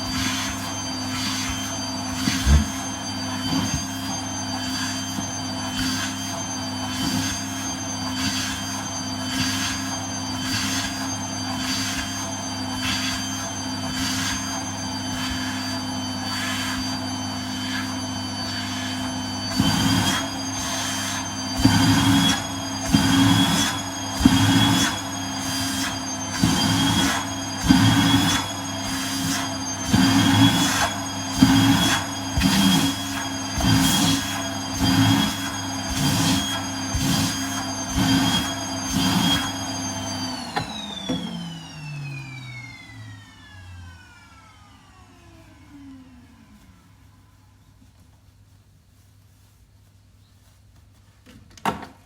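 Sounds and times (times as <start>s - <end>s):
vacuum cleaner whining: 0.0s - 48.5s.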